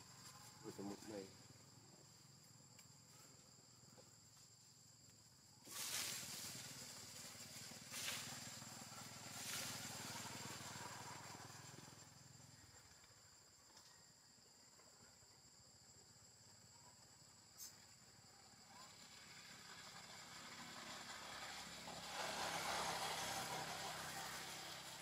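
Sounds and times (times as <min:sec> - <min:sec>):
high insect chorus: 0:00.0 - 0:25.0.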